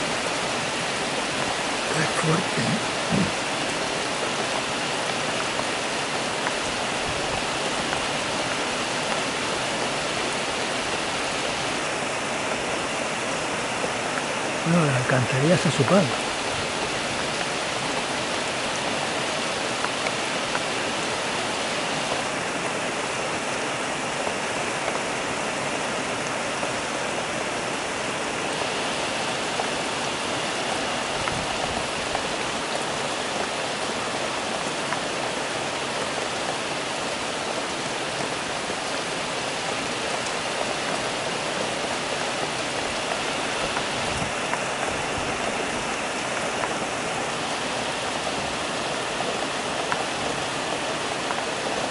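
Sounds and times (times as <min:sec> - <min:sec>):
heavy rain on rooftops: 0:00.0 - 0:51.9.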